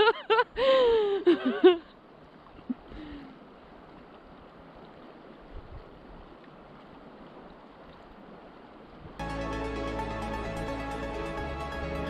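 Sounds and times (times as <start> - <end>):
river running over pebbles: 2.0 - 12.0.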